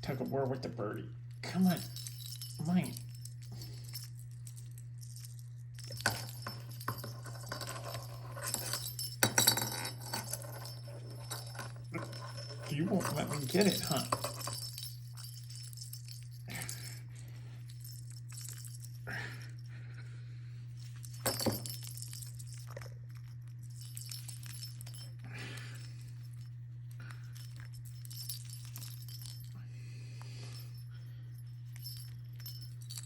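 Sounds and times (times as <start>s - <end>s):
steady low hum: 0.0s - 33.0s
toy ball clinking and rattling: 1.4s - 19.6s, 20.8s - 29.6s, 30.5s - 33.0s.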